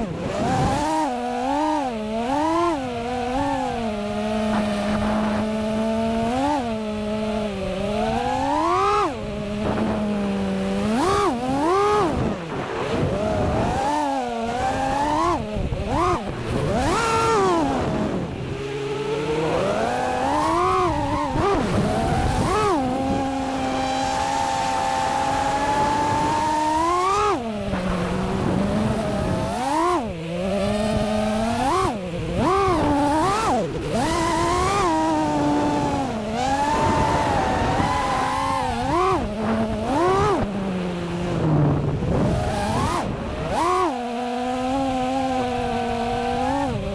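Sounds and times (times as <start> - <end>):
quadcopter motors whining: 0.0 - 46.9.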